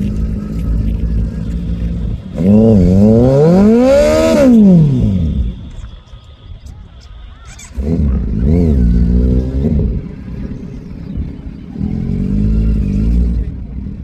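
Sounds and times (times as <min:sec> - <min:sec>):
motorcycle engine revving: 0:00.0 - 0:06.0, 0:07.5 - 0:14.0.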